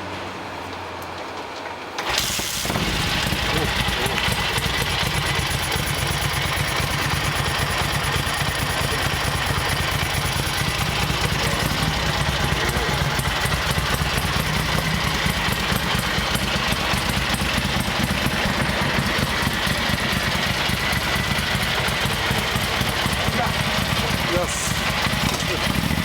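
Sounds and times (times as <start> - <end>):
motorcycle engine idling: 2.0 - 26.0.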